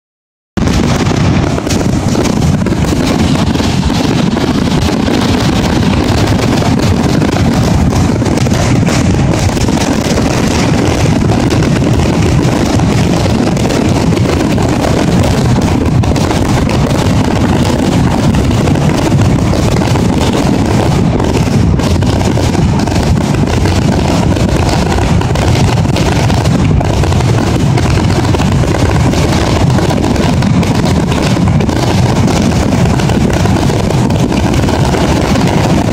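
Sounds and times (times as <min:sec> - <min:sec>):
fireworks bursting: 0:00.6 - 0:35.9.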